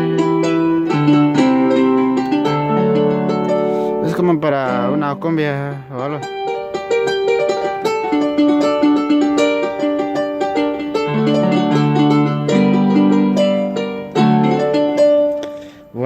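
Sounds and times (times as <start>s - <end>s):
synthesizer plucked melody: 0.0s - 15.7s.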